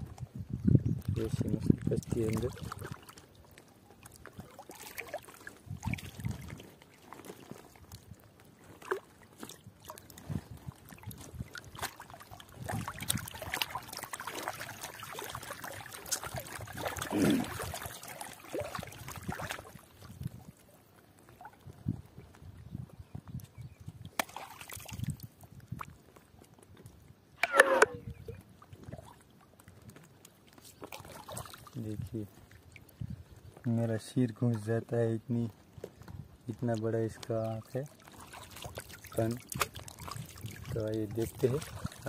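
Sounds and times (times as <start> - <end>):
water trickling and splashing: 0.0 - 27.2, 28.1 - 42.0.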